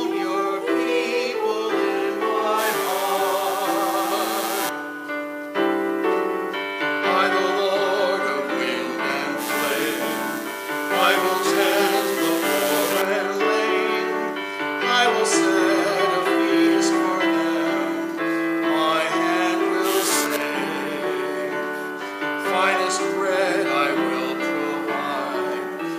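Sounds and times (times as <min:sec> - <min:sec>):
man and woman singing a hymn: 0:00.0 - 0:04.8, 0:07.0 - 0:25.9
keyboard accompaniment: 0:00.0 - 0:25.9.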